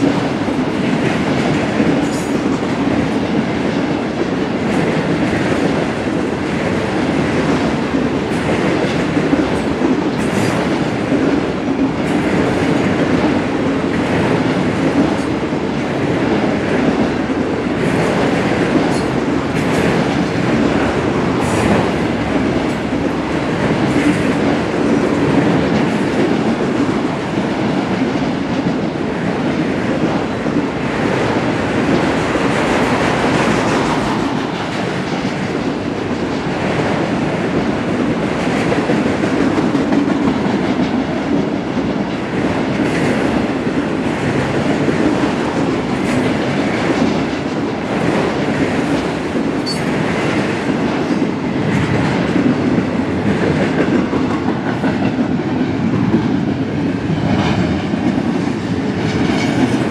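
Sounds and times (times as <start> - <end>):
freight train wheels rumbling: 0.0 - 59.9
sharp clicks of train wheels: 0.0 - 59.9.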